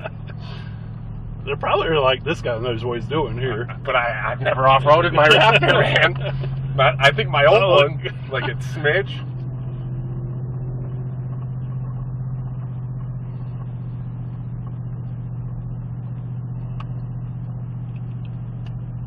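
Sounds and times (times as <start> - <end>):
truck engine low drone: 0.0 - 19.0.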